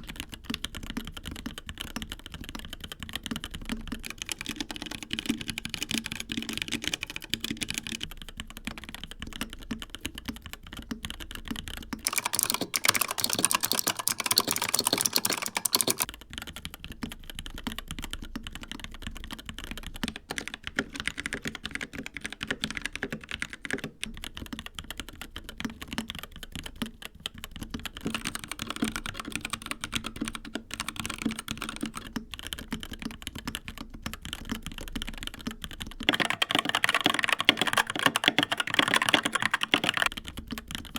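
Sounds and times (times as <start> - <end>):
typing on mechanical keyboards: 0.0 - 40.9.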